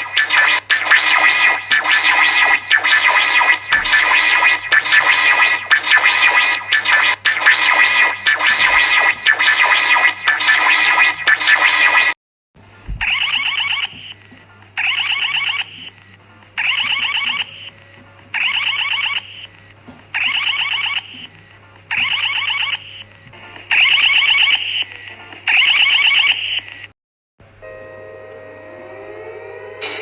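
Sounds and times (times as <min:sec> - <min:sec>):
warbling electronic alarm: 0:00.0 - 0:12.2, 0:13.0 - 0:14.2, 0:14.8 - 0:15.9, 0:16.6 - 0:26.7.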